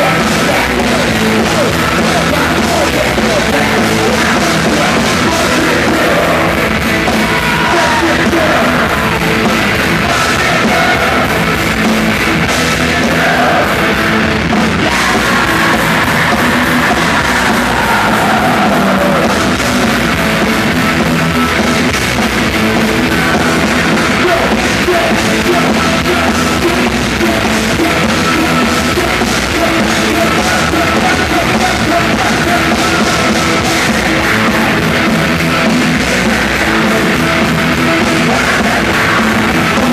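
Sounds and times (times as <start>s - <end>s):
person singing: 0.0s - 11.6s, 14.7s - 20.1s, 23.0s - 39.9s
live rock band playing: 0.0s - 39.9s.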